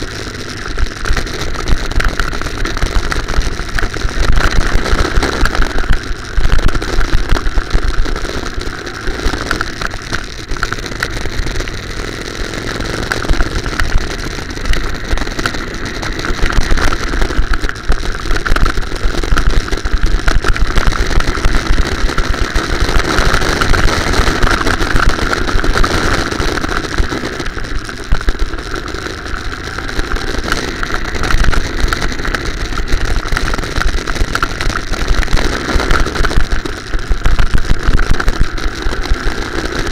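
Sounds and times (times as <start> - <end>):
go-kart engine running: 0.0 - 39.9
heavy rumble: 0.0 - 39.9.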